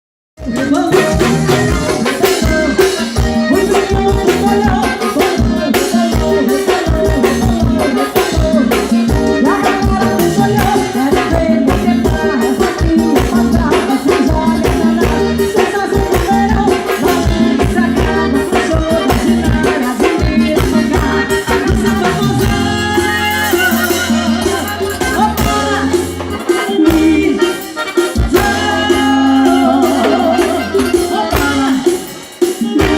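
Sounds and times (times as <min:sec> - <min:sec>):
band music with driving beat: 0:00.4 - 0:32.9
person singing: 0:00.4 - 0:32.9.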